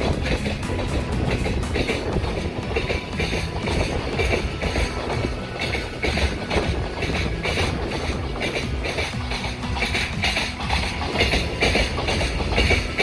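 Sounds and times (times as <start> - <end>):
train low rumble: 0.0 - 13.0
train wheels clattering over joints: 0.0 - 13.0.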